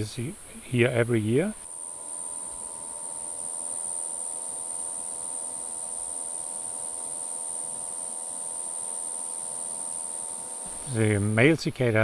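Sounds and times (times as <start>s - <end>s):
cicada high-pitched buzz: 0.0s - 12.0s.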